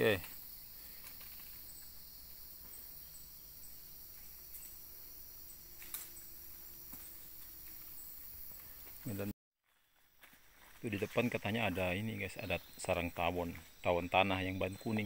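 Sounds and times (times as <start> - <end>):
high insect chirps: 0.0 - 15.0
insects hissing: 0.0 - 15.0.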